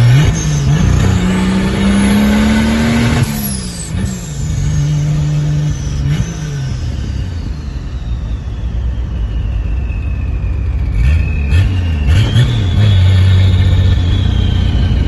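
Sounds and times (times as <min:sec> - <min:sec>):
car engine accelerating: 0:00.0 - 0:15.0
turbo whistle: 0:00.0 - 0:15.0.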